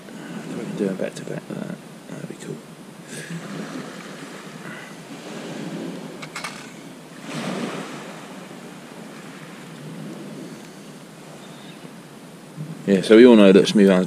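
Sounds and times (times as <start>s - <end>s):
sea waves washing onto shore: 0.0s - 14.0s.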